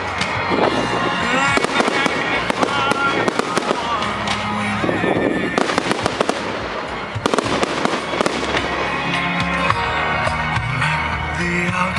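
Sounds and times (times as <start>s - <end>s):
fireworks cracking and banging: 0.0s - 9.8s.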